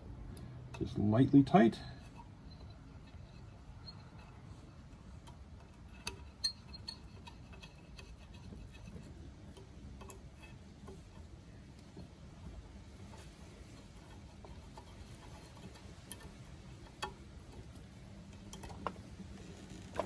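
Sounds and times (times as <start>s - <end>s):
faint metallic ticks and clicks: 1.7s - 20.0s.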